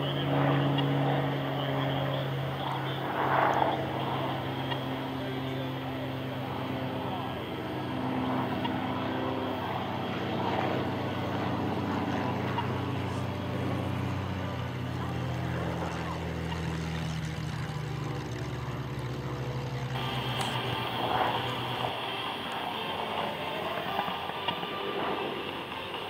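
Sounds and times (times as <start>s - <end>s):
propeller engine drone: 0.0s - 26.0s.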